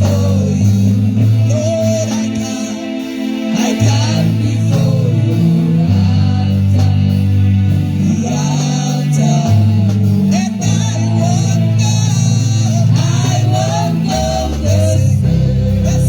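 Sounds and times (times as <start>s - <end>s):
bass guitar holding notes: 0.0s - 16.0s
people singing gospel: 0.0s - 16.0s.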